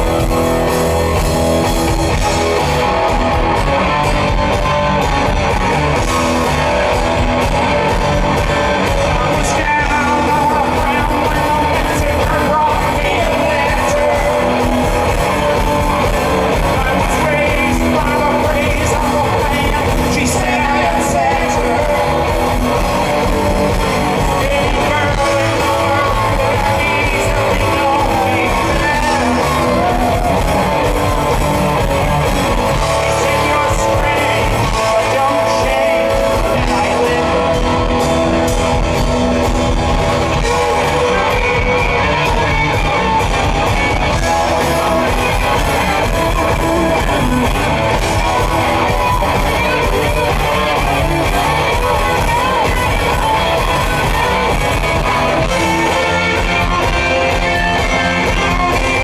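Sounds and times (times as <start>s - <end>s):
bass guitar: 0.0s - 59.0s
drums: 0.0s - 59.0s
electric guitars: 0.0s - 59.0s
man singing: 8.8s - 39.1s, 39.9s - 59.0s.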